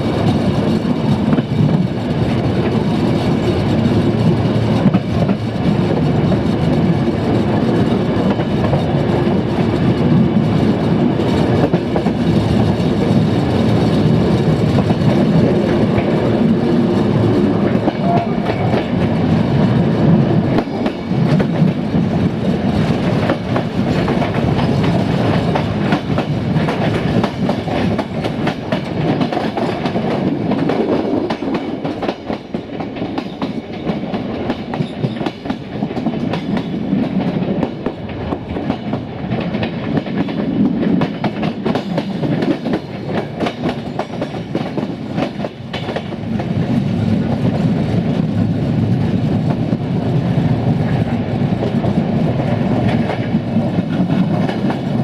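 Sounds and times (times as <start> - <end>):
rail joints clickety-clack: 0.0 - 55.0
train wheels rumbling on rails: 0.0 - 55.0.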